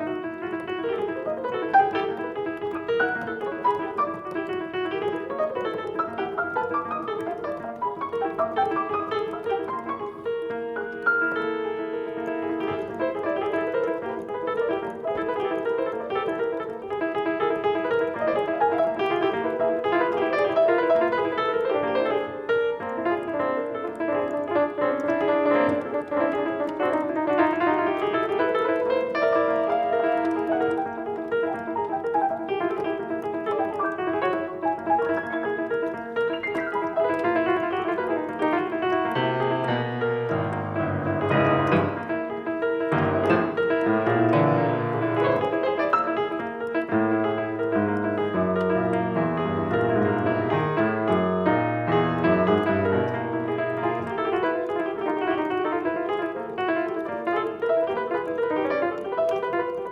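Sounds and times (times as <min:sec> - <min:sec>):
solo piano improvisation: 0:00.0 - 0:59.9.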